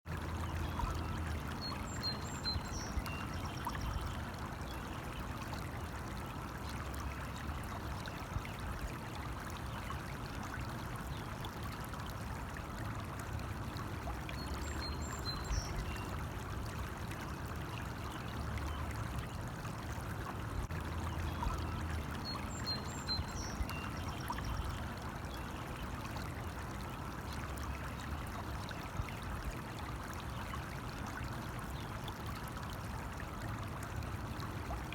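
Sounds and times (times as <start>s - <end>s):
stream trickling: 0.1s - 34.9s.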